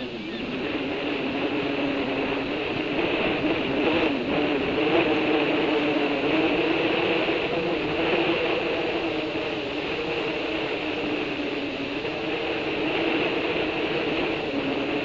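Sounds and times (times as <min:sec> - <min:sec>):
distant engine drone: 0:00.0 - 0:15.0.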